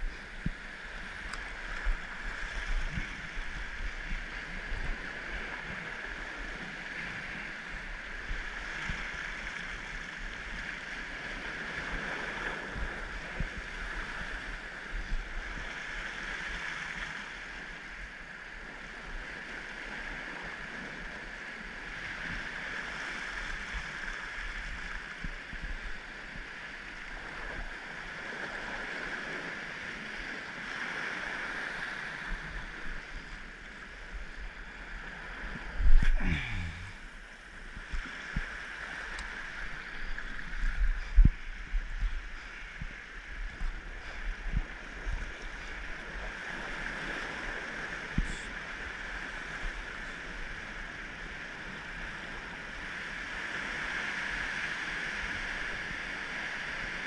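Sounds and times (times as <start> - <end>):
surf washing against rocks: 0.0 - 57.0
wind rumbling on microphone: 0.0 - 57.0.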